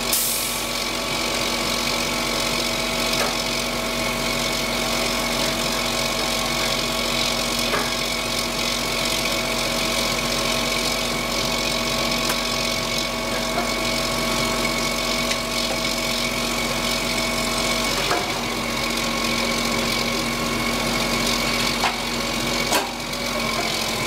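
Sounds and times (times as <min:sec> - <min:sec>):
diesel machinery idling: 0:00.0 - 0:24.0.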